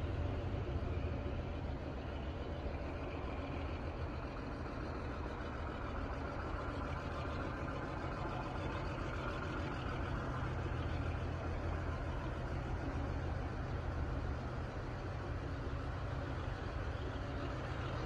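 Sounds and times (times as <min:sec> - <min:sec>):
train engine rumble: 0:00.0 - 0:18.0.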